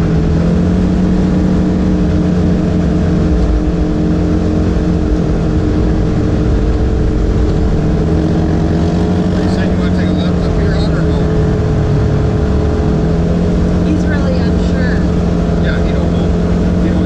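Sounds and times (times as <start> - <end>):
gravel road noise: 0.0 - 17.0
vehicle engine running: 0.0 - 17.0.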